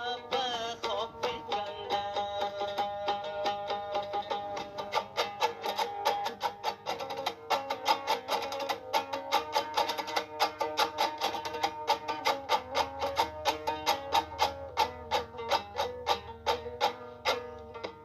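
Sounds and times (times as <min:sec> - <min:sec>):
plucked string instrument: 0:00.0 - 0:18.0.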